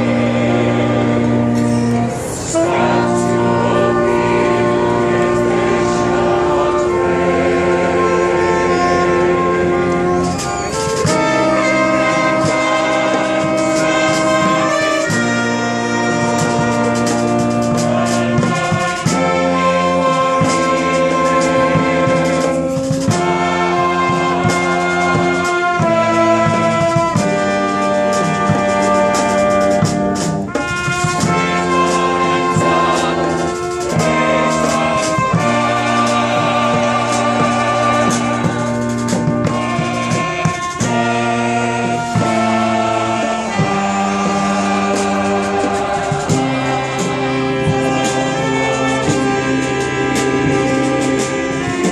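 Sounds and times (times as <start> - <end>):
brass band playing held chords: 0.0 - 51.9.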